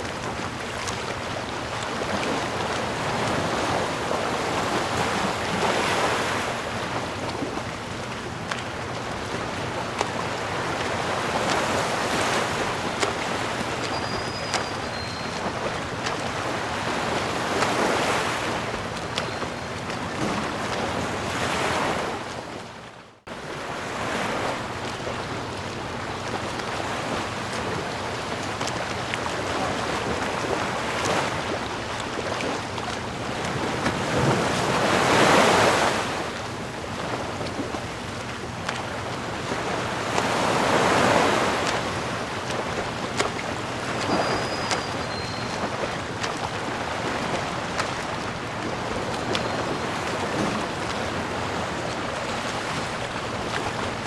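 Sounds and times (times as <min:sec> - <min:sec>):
ocean waves washing: 0:00.0 - 0:54.0.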